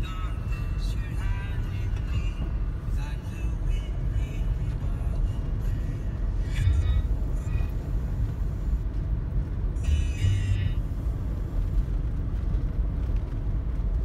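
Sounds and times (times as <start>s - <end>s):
vehicle driving on gravel road: 0.0s - 14.0s.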